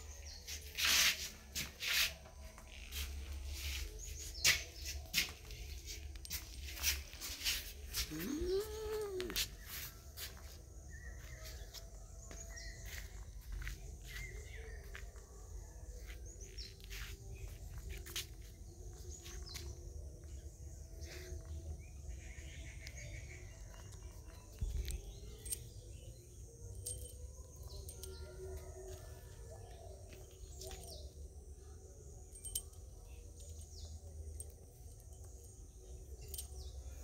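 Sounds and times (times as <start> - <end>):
birds chirping: 0.0 - 15.3, 16.0 - 37.0.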